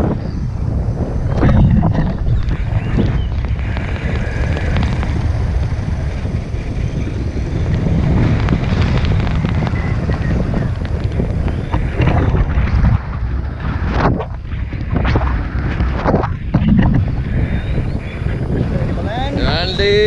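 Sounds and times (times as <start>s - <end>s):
wind roaring over microphone: 0.0s - 20.0s.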